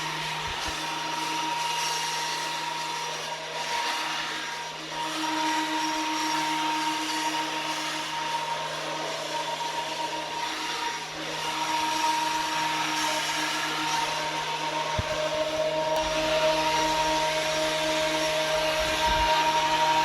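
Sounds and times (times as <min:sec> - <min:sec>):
planer motor whine: 0:00.0 - 0:20.0.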